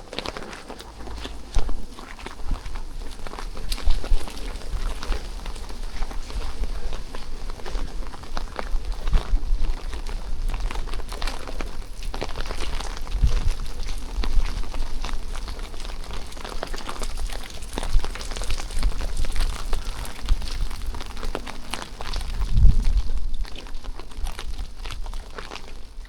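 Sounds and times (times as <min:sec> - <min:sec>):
rain pattering: 0:00.0 - 0:26.0
wind rumbling on microphone: 0:00.0 - 0:26.0.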